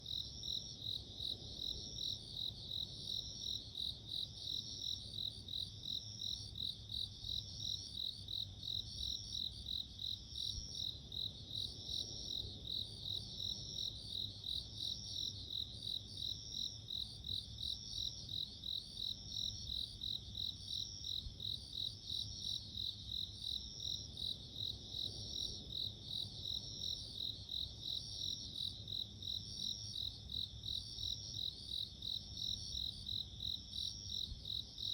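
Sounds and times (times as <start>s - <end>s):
slower pulsing cricket song: 0.0s - 34.9s.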